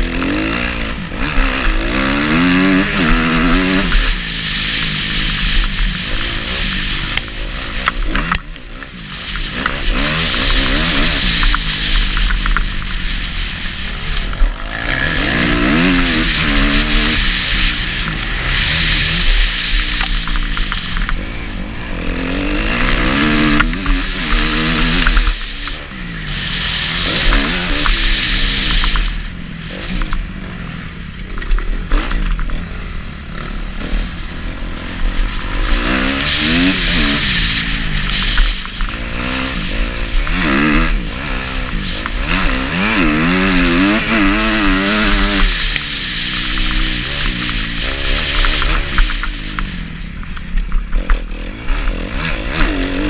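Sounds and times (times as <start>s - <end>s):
motocross bike engine revving: 0.0s - 53.0s
steady rushing noise: 0.0s - 53.0s.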